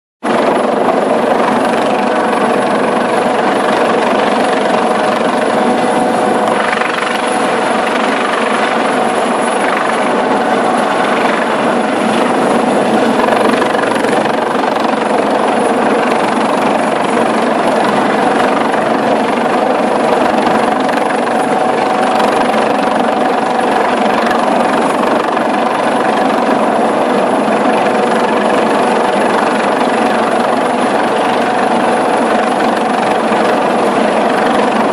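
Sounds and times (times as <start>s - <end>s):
helicopter hovering: 0.2s - 34.9s
thin high whine: 0.5s - 34.9s.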